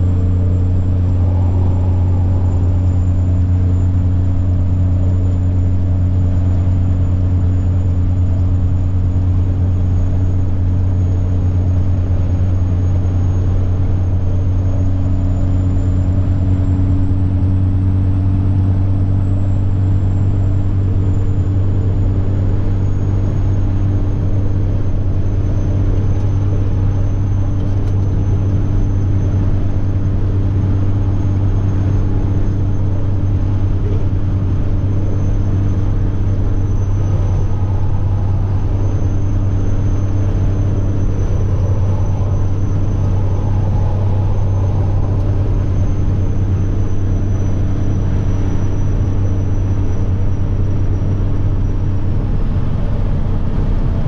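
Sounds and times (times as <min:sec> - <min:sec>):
truck diesel engine droning: 0:00.0 - 0:54.0
turbocharger whine: 0:00.0 - 0:54.0.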